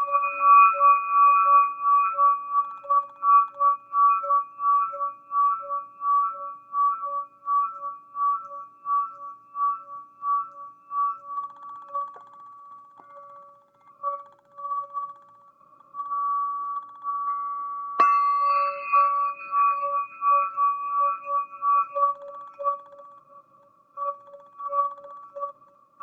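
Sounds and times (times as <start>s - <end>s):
crystal singing pyramid ringing: 0.0s - 26.0s.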